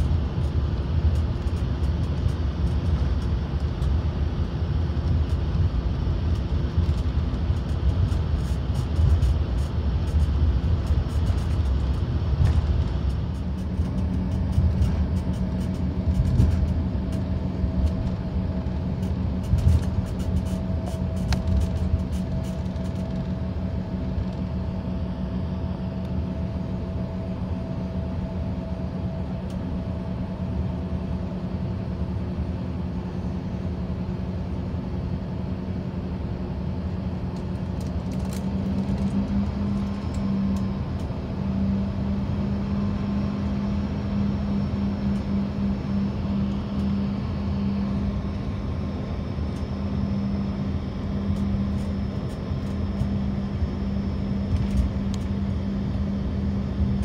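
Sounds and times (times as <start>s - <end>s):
jet engines humming in cabin: 0.0s - 57.0s.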